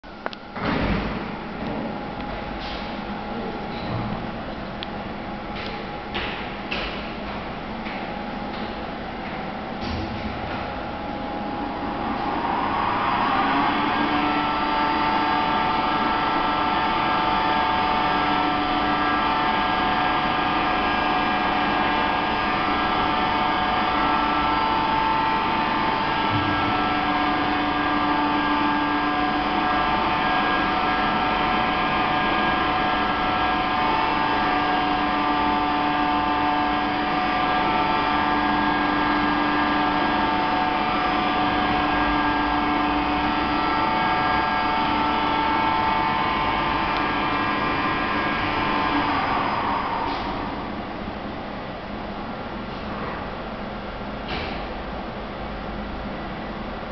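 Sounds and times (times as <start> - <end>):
elevator hoist motor humming: 0.0 - 56.9.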